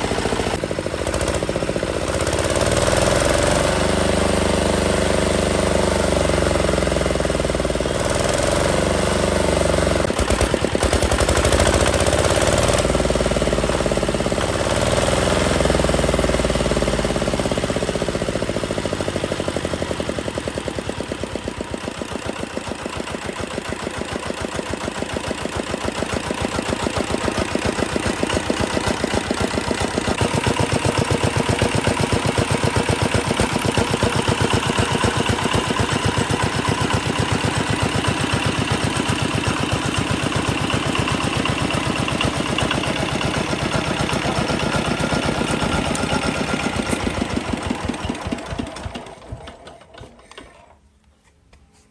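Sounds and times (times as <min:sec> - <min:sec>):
diesel engine knocking: 0:06.2 - 0:49.7.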